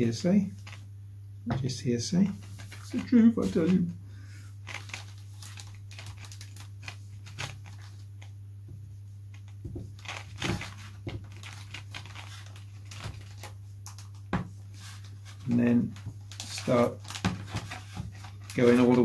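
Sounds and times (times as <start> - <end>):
steady low hum: 0.0 - 19.0
plastic film crinkling: 0.4 - 0.8, 2.2 - 3.9, 4.6 - 8.3, 9.3 - 19.0.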